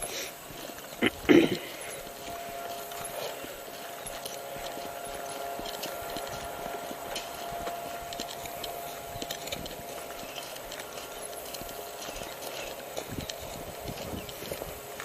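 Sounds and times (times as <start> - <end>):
faint steady tone: 0.0 - 15.0
footsteps: 0.0 - 15.0.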